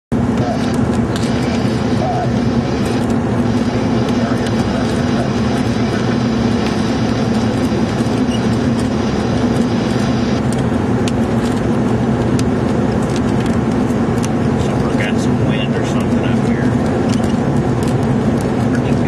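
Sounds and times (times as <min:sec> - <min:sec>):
car interior rumble: 0:00.1 - 0:19.0
storm wind: 0:00.1 - 0:19.0.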